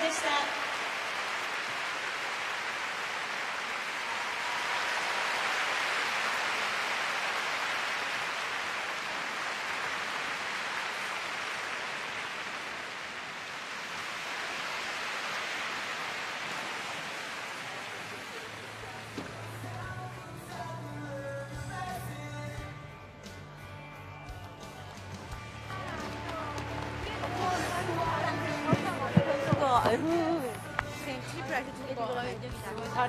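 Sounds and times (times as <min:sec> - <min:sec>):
audience applauding: 0:00.0 - 0:20.0, 0:24.9 - 0:33.0.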